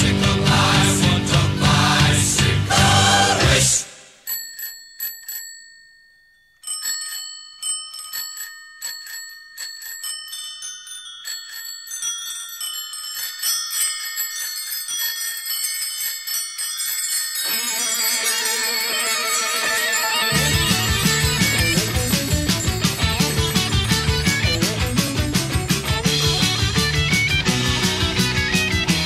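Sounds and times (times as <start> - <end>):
bicycle bells ringing: 4.2 - 29.0.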